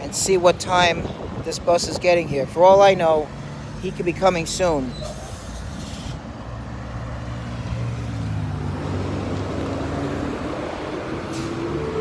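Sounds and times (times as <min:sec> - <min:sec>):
vehicle engine humming: 0:02.1 - 0:12.0.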